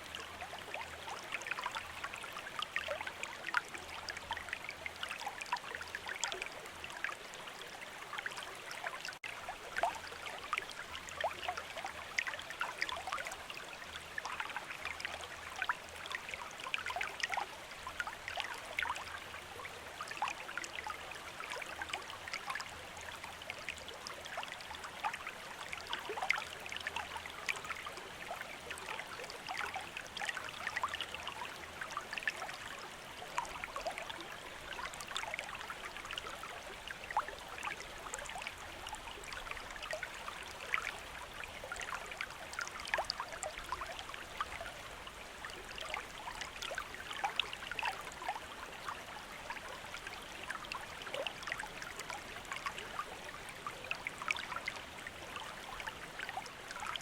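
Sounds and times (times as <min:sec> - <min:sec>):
shallow stream trickling and splashing: 0:00.0 - 0:57.0.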